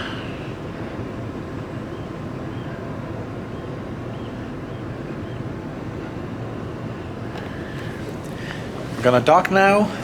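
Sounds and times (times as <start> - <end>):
ferry engines rumbling: 0.0 - 10.0.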